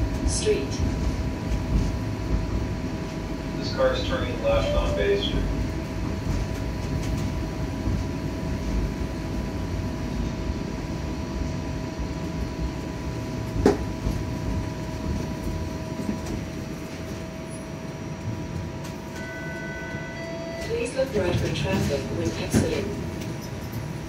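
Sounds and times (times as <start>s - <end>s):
streetcar rolling rumble: 0.0s - 24.0s.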